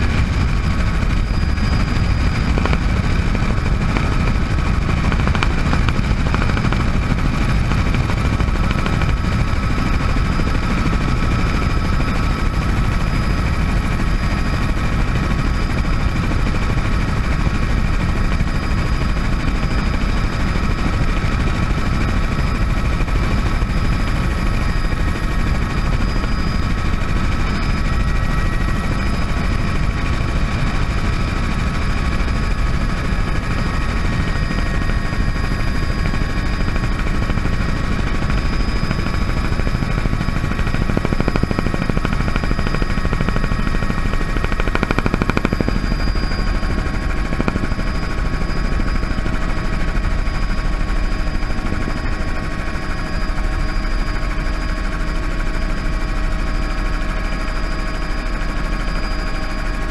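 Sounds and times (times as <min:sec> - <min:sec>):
rotor blades beating: 0:00.0 - 0:52.4
helicopter turbine whine: 0:00.0 - 0:59.9.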